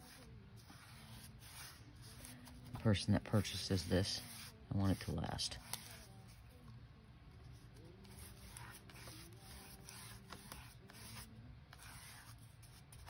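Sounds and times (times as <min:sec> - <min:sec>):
foam brush swishing on paper: 0:00.0 - 0:06.4, 0:08.0 - 0:13.0.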